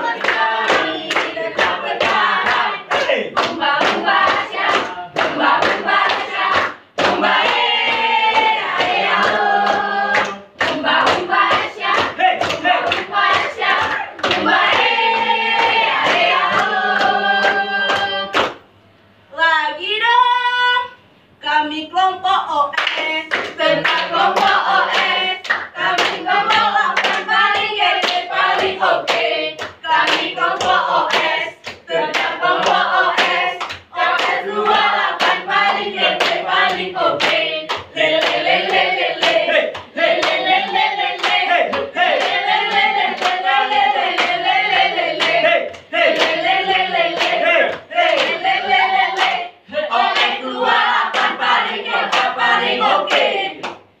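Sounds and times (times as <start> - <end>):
young voices singing a cheer: 0.0 - 18.5, 23.0 - 53.9
hand claps on a steady beat: 0.0 - 18.7, 22.8 - 52.4.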